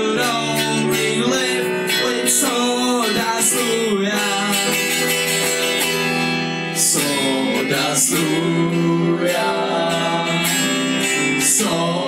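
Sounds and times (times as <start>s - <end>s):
guitar and keyboard band music: 0.0s - 12.0s.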